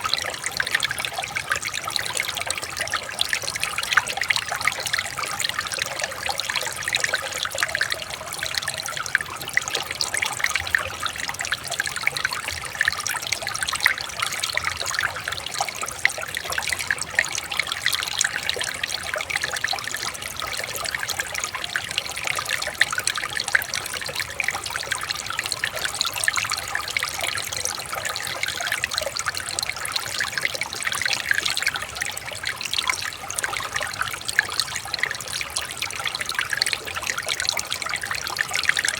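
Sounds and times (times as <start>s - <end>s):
water babbling over stones: 0.0s - 38.9s.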